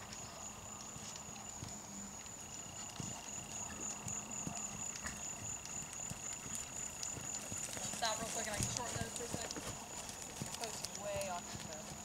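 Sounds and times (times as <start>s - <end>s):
hoofbeats on sand: 0.0s - 12.0s.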